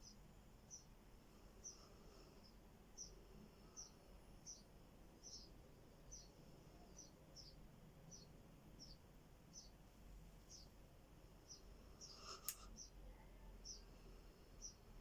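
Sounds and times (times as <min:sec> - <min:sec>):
faint high-pitched chirping: 0:00.0 - 0:15.0.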